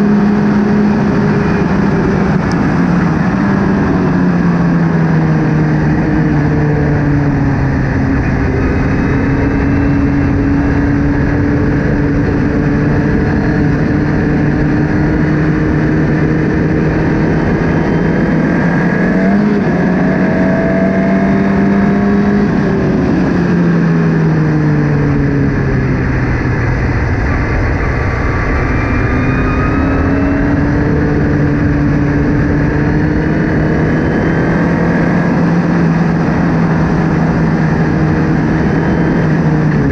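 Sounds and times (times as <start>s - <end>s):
constant rushing noise: 0.0s - 39.9s
race car engine running hard: 0.0s - 39.9s.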